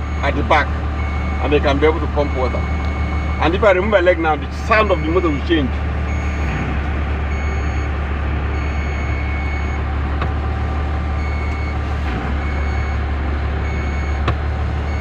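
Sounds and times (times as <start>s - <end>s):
fire truck engine running: 0.0s - 15.0s.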